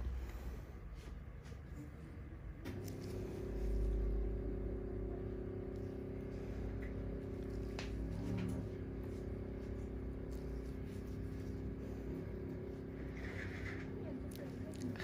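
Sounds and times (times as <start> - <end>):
motor hum: 2.2 - 15.0.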